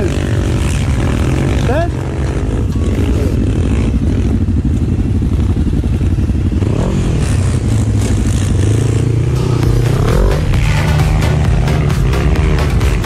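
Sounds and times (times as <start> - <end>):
engine revving: 0.0 - 13.0
quad engine running: 0.0 - 13.0.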